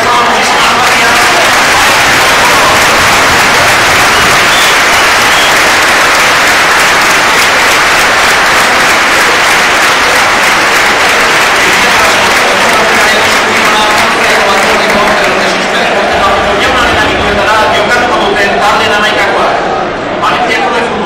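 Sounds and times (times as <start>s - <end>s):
stadium crowd applauding: 0.0s - 19.5s.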